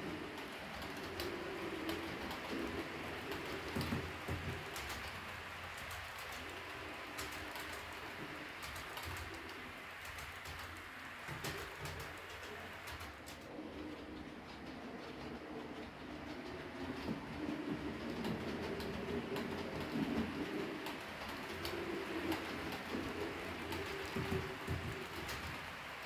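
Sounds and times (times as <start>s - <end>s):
model train wheels clicking on rails: 0.0s - 26.0s
pigeon-like cooing: 0.0s - 26.0s.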